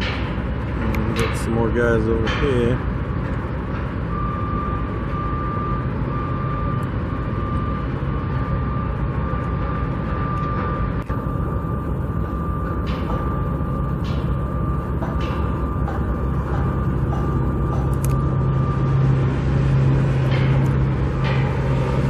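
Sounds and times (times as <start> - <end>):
heavy machinery rumble: 0.0 - 22.0.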